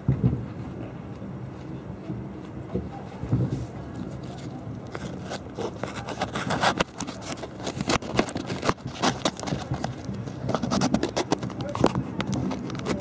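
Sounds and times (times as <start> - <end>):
fireworks crackling: 2.1 - 13.0.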